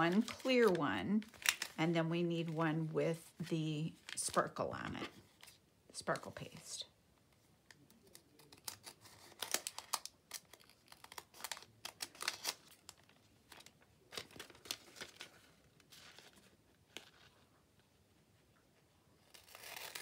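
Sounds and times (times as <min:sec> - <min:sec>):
plastic sheets crinkling: 0:00.0 - 0:06.6, 0:07.8 - 0:17.8.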